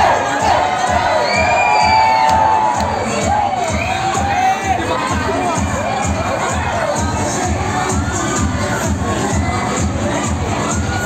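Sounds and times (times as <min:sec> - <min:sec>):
crowd cheering and shrieking: 0:00.0 - 0:11.0
loud dance music: 0:00.0 - 0:11.0.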